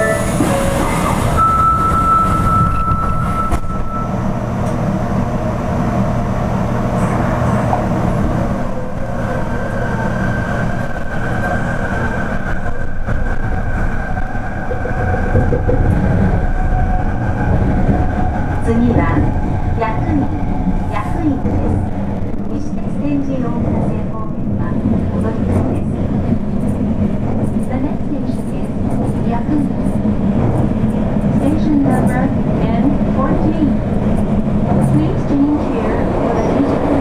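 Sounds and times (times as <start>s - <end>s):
train rumbling in tunnel: 0.0s - 37.0s.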